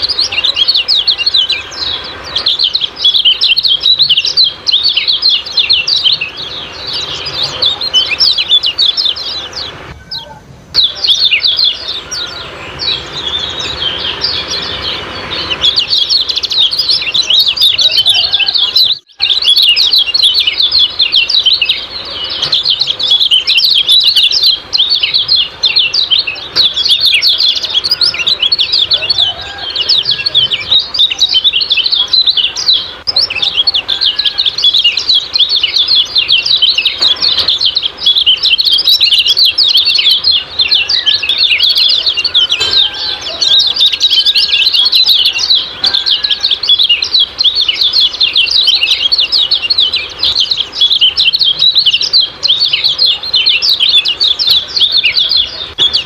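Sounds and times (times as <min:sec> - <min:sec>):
birds chirping rapidly: 0:00.0 - 0:56.0.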